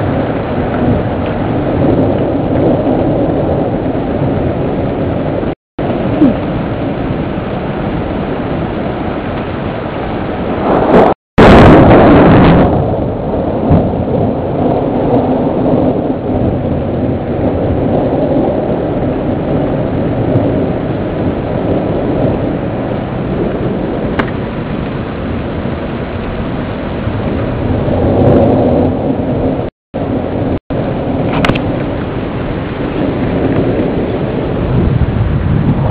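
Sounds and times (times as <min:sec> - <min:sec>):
rain: 0:00.0 - 0:35.9
thunder rumbling: 0:00.0 - 0:35.9.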